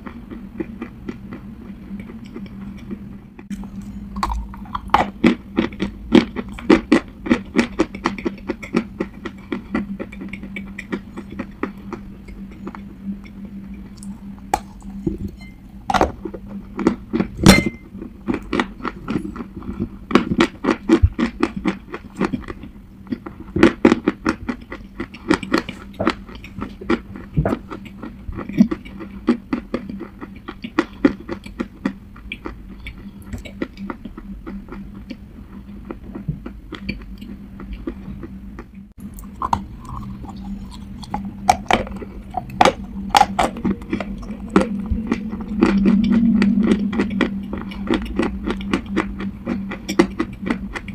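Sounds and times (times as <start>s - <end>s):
faint low hum: 0.0s - 50.9s.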